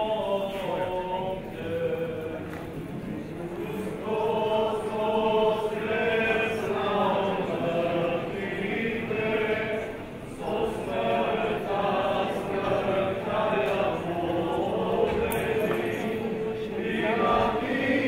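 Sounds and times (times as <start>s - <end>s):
voices chanting: 3.1s - 18.0s.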